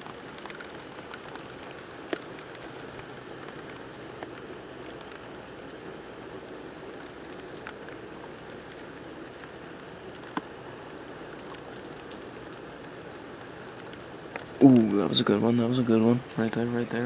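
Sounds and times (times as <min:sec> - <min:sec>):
raindrop ticks: 0:00.0 - 0:17.0
steady rain: 0:00.0 - 0:17.0.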